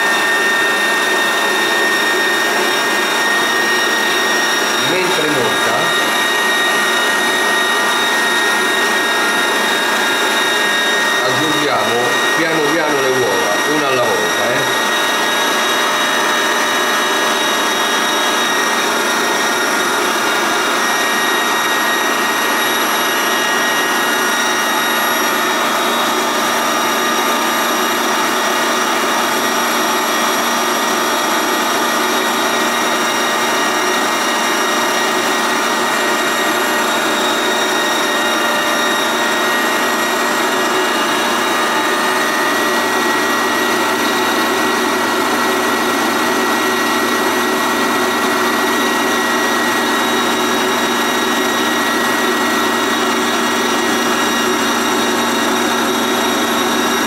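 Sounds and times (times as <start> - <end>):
stand mixer motor whine: 0.0 - 57.0.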